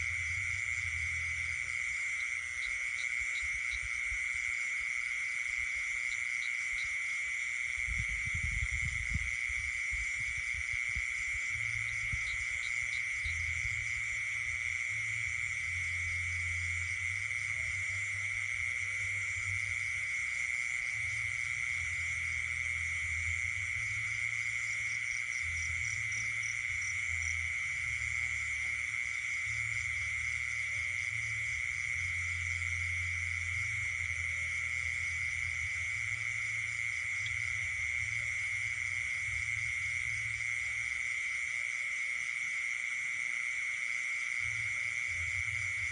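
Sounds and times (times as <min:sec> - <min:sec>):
frogs and insects calling: 0:00.0 - 0:45.9.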